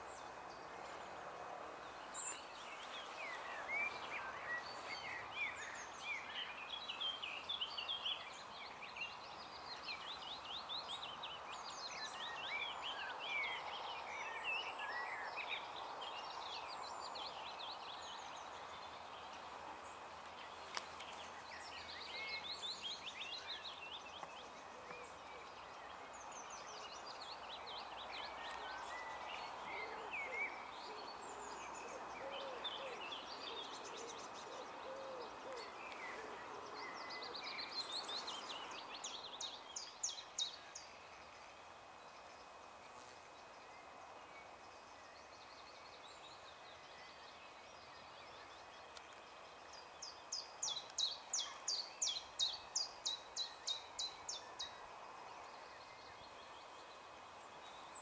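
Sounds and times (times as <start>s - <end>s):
steady background hiss: 0.0s - 58.0s
birds singing and chirping: 2.1s - 43.1s, 43.8s - 58.0s.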